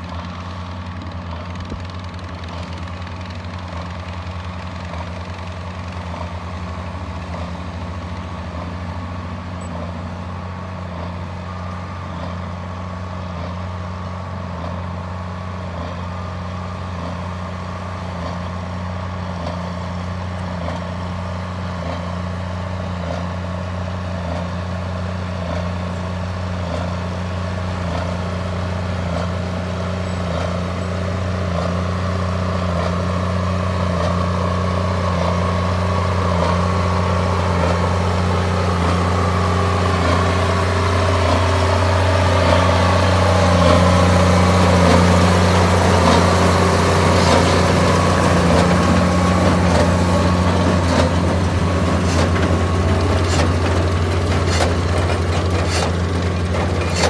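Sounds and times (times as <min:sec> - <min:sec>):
hay baler working: 0:00.0 - 0:57.0
tractor engine drone: 0:00.0 - 0:57.0.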